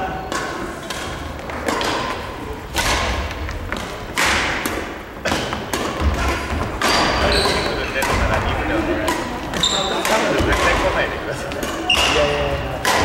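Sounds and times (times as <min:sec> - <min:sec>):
rackets hitting shuttlecock: 0:00.2 - 0:13.0.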